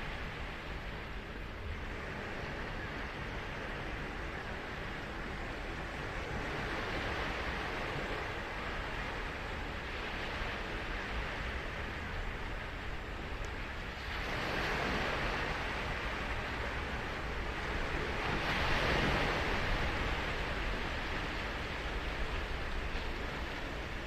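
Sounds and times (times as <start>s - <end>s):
waves breaking on beach: 0.0s - 24.0s.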